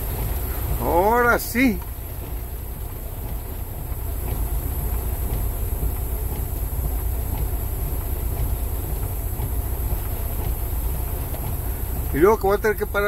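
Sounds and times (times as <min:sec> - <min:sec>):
heavy rain on truck cab: 0:00.0 - 0:13.0
truck engine rumbling: 0:00.0 - 0:13.0.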